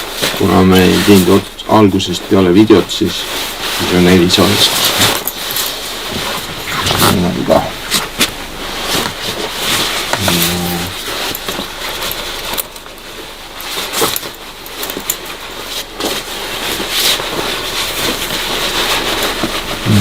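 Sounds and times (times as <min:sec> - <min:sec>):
rustling and handling noise: 0:00.0 - 0:20.0.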